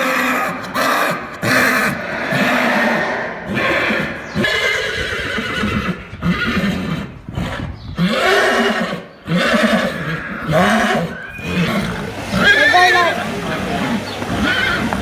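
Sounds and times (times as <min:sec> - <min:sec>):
horse whinnying: 0:00.0 - 0:13.0, 0:14.3 - 0:15.0.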